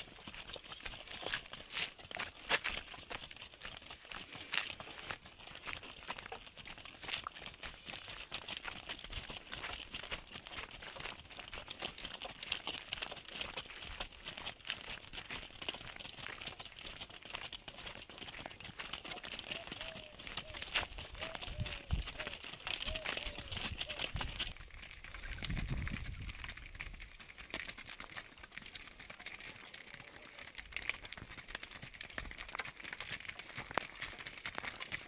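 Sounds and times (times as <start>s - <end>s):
hooves crunching on gravel: 0.0s - 35.0s.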